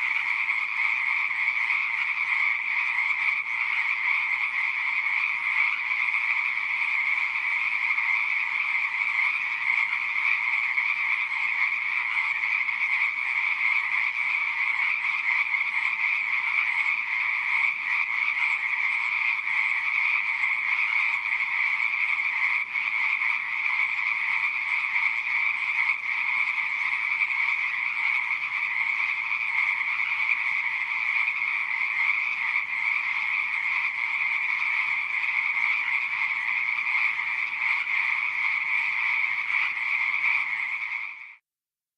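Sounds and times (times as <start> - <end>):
chorus of frogs calling: 0.0 - 41.4.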